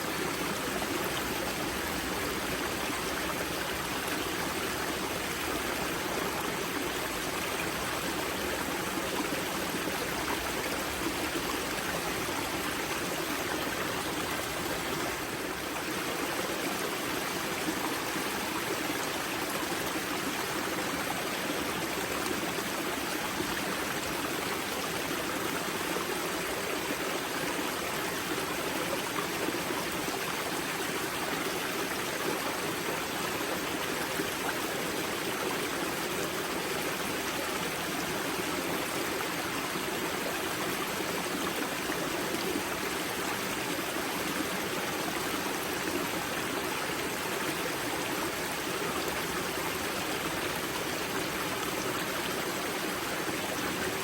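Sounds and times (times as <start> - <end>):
river water flowing and splashing: 0.0 - 54.0.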